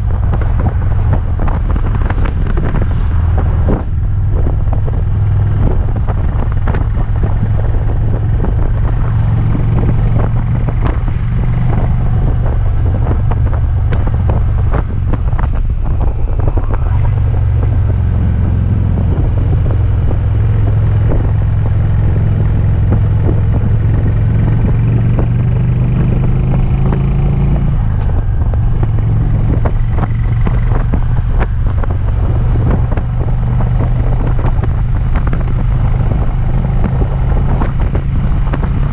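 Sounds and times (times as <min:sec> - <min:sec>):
wind on microphone: 0:00.0 - 0:38.9.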